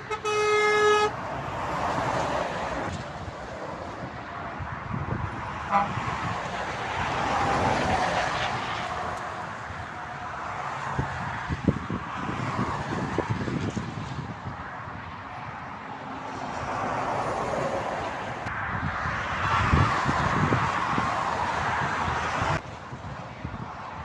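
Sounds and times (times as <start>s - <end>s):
motorway traffic passing: 0.0s - 24.0s.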